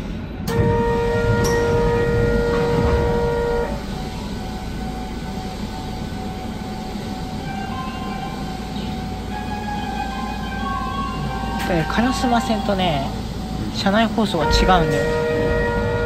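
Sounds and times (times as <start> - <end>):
train rumble: 0.0 - 16.0
train horn: 0.4 - 13.2, 14.2 - 16.0.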